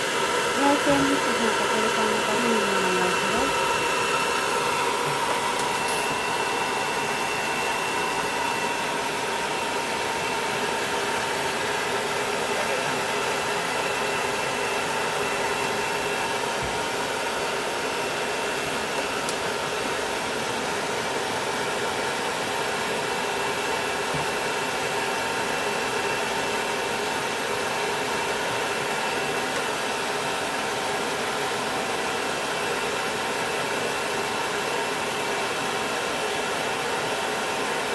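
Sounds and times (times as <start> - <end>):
hair dryer blowing: 0.0 - 37.9.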